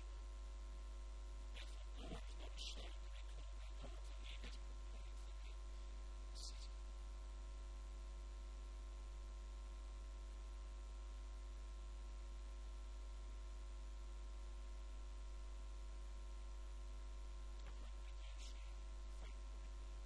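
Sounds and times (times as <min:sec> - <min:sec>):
low electrical mains hum: 0:00.0 - 0:20.0.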